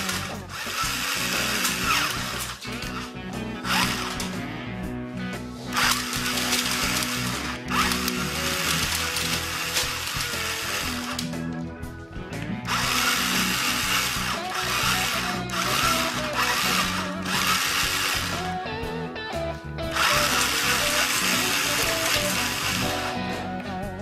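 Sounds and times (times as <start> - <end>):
electric motor whirring: 0.0 - 4.5, 5.6 - 11.5, 12.4 - 19.0, 19.8 - 23.4
background music: 0.0 - 24.0.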